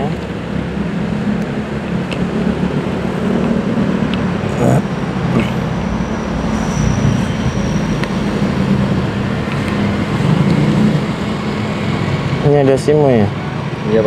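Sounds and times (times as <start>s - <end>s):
vehicle engines and traffic rumble: 0.0s - 14.0s.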